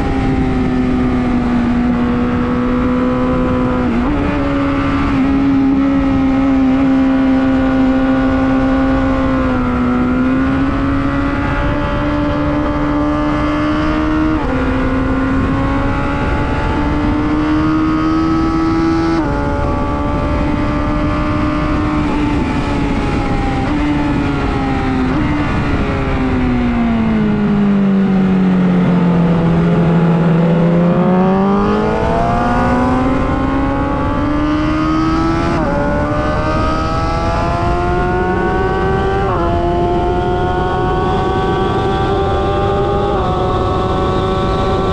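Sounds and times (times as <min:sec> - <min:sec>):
motorcycle engine at speed: 0:00.0 - 0:44.9
wind rush: 0:00.0 - 0:44.9.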